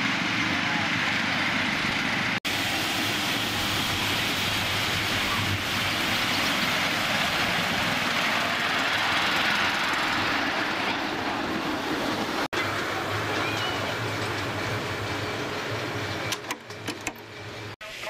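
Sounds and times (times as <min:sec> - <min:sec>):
steam hissing: 0:00.0 - 0:16.1
miniature steam train running: 0:00.0 - 0:18.0.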